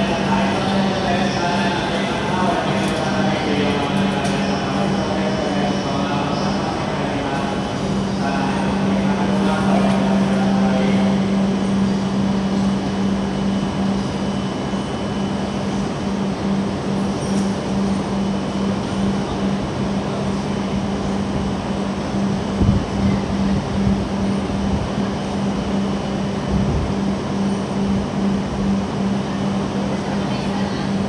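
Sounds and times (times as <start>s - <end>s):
train rumbling into station: 0.0s - 31.0s.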